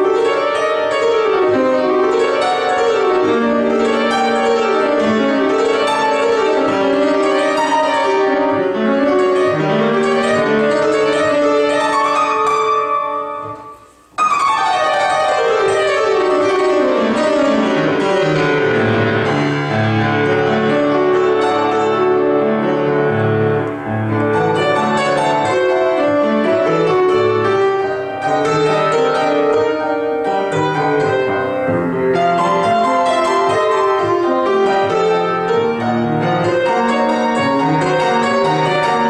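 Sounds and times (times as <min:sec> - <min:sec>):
solo grand piano piece: 0:00.0 - 0:39.0.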